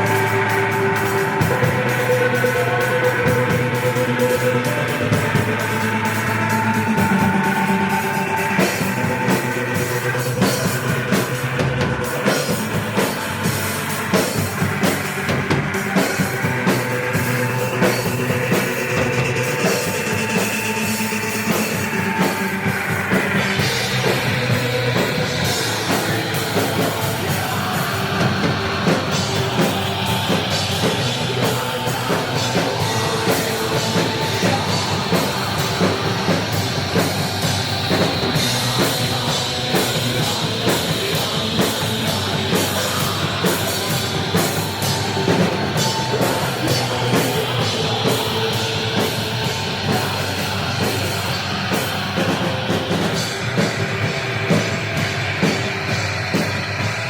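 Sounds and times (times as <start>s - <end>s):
distorted wall of sound: 0.0s - 57.0s
drum kit: 0.0s - 57.0s
noise-rock band playing: 0.0s - 57.0s.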